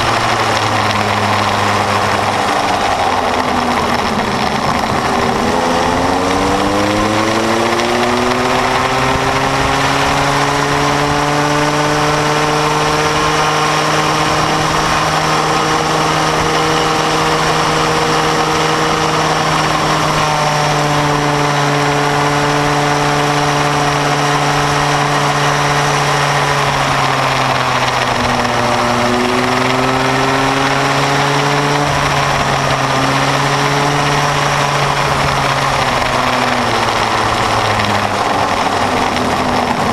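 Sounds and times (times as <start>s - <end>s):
go-kart engine running hard: 0.0s - 39.9s
wind and road noise: 0.0s - 39.9s.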